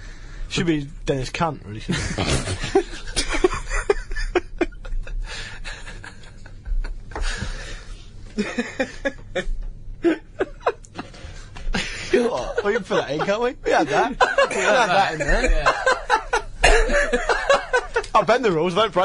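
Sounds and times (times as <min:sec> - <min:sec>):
men laughing: 0:01.9 - 0:18.5.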